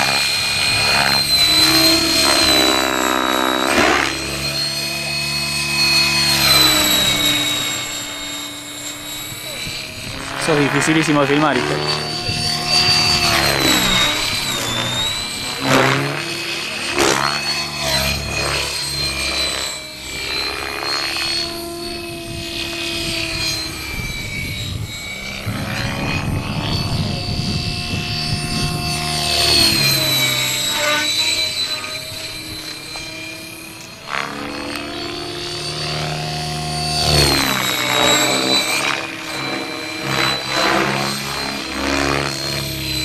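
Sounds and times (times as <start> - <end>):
model helicopter whine and rotor noise: 0.0 - 43.0.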